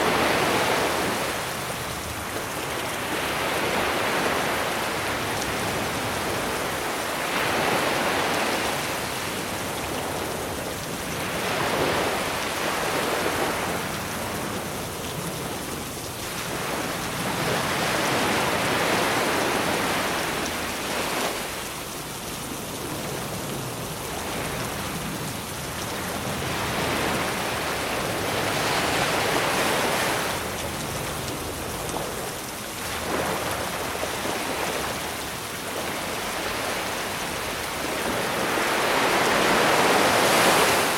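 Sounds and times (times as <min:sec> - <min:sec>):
rain hiss: 0:00.0 - 0:40.9
sea waves washing onto beach: 0:00.0 - 0:40.9.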